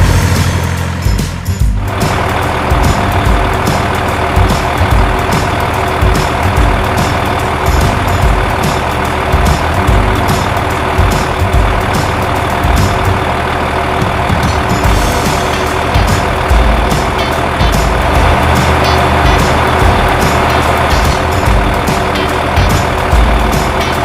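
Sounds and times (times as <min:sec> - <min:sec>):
low thumps: 0:00.0 - 0:24.0.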